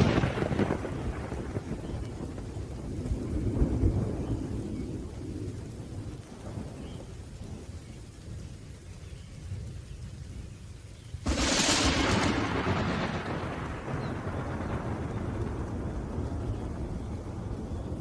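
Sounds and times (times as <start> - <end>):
rain hiss: 0.0 - 18.0
thunder rumbling: 0.0 - 18.0.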